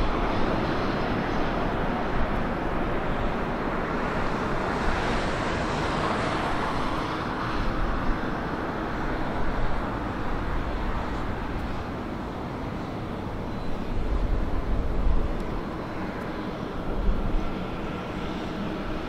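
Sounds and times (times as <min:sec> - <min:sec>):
jet airliner roar: 0:00.0 - 0:19.0.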